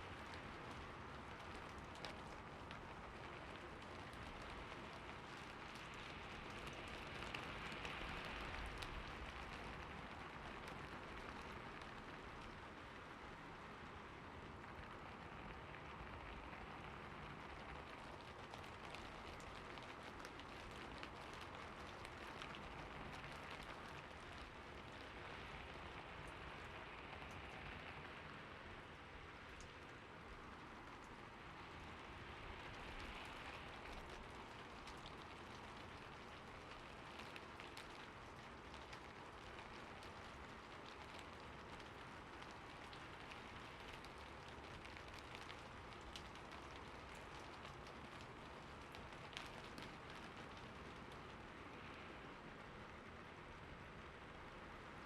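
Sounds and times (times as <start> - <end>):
rain on a rooftop: 0.0 - 55.0.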